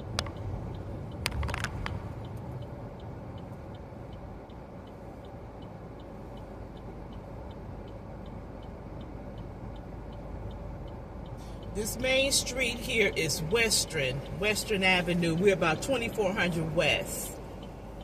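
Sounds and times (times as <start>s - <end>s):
turn signal ticking: 0.0s - 18.0s.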